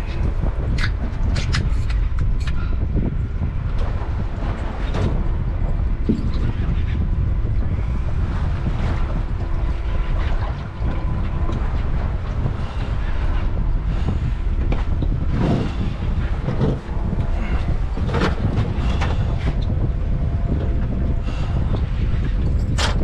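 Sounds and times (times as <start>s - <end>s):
boat engine: 0.0s - 23.0s
heavy wind rumble on microphone: 0.0s - 23.0s
water noise: 0.0s - 23.0s.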